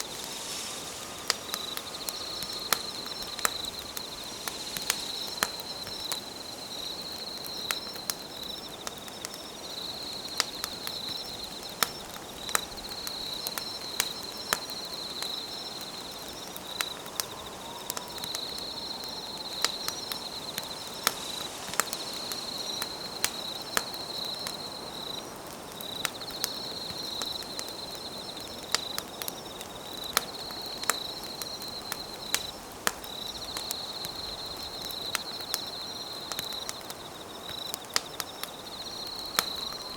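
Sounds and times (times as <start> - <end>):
campfire crackling and popping: 0.0 - 39.9
high insect trill: 0.0 - 39.9.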